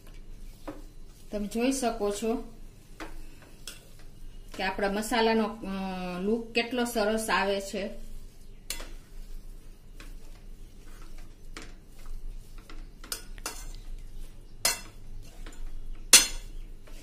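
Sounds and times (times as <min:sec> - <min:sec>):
metal spoon scraping pan: 0:00.4 - 0:05.5, 0:06.6 - 0:17.0.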